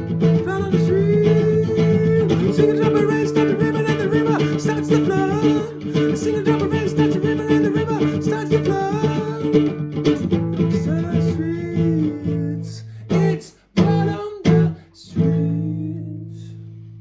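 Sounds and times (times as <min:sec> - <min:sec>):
strummed guitar chords: 0:00.0 - 0:16.8.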